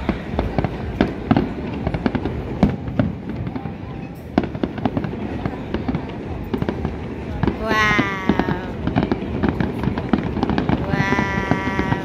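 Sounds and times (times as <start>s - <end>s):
fireworks bursts and crackling: 0.0s - 12.0s.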